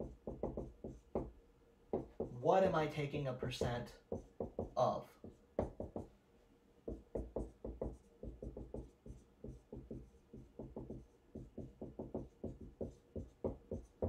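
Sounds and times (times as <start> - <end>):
marker writing on whiteboard: 0.0 - 6.1, 6.8 - 14.0.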